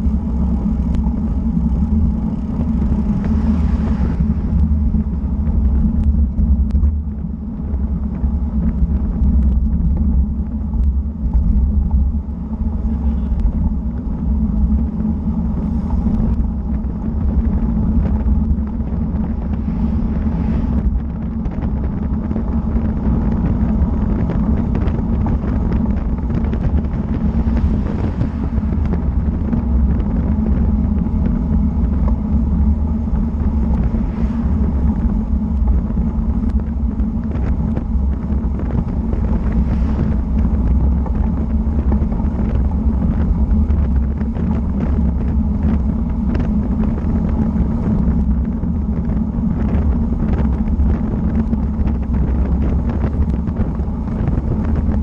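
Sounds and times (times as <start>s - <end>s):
wind and road noise rumble: 0.0s - 55.0s.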